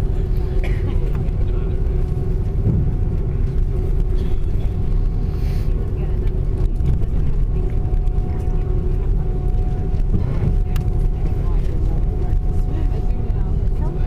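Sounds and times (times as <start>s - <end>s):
aircraft cabin rumble: 0.0s - 14.0s
engine hum: 0.0s - 14.0s.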